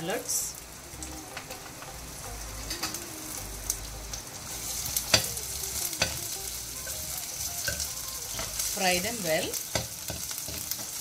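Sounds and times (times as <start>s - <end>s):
shallots sizzling in oil: 0.0s - 11.0s.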